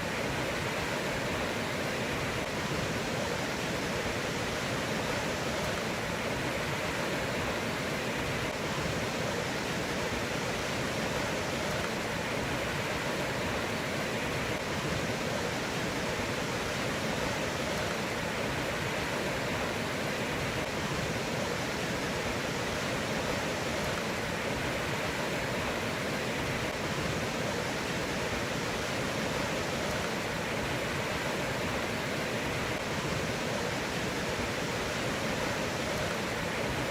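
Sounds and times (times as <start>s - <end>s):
rushing floodwater: 0.0s - 36.9s.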